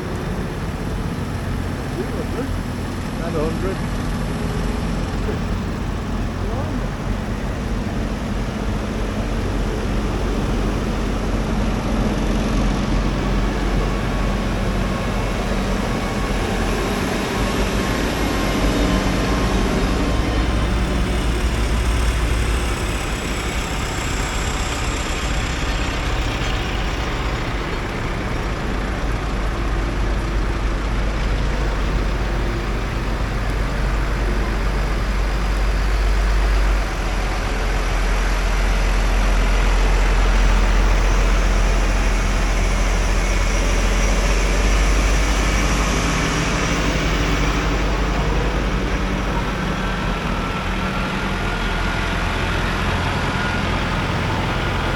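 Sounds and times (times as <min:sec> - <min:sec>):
tractor engine rumbling: 0:00.0 - 0:54.9.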